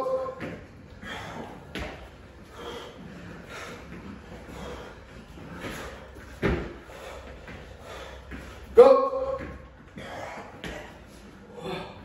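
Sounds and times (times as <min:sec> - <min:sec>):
heavy breathing: 0:00.0 - 0:12.0.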